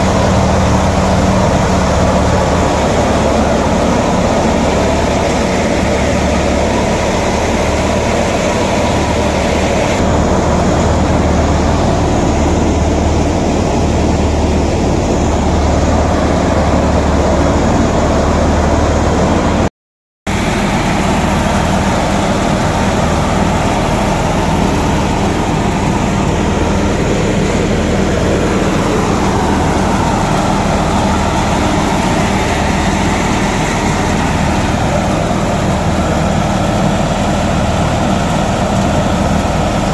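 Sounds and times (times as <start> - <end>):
thresher machine droning: 0.0 - 19.7, 20.3 - 39.9
tractor diesel engine: 0.0 - 39.9.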